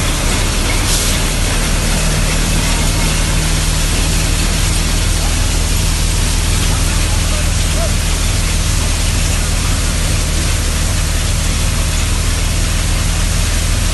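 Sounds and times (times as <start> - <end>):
threshing machine running: 0.0 - 13.9.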